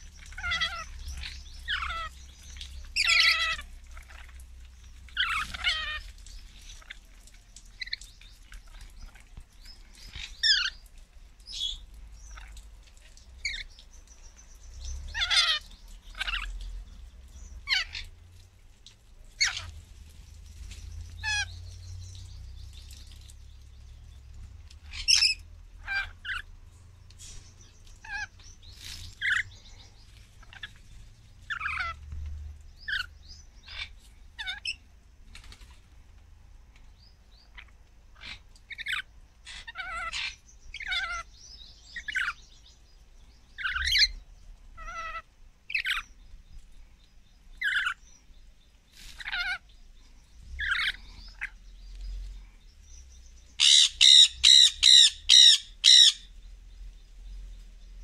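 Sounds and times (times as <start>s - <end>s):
parrots chirping and squawking: 0.0s - 18.2s, 19.3s - 23.3s, 24.0s - 34.8s, 37.4s - 42.5s, 43.5s - 46.7s, 47.5s - 48.2s, 49.0s - 49.8s, 50.4s - 52.3s, 53.5s - 56.4s.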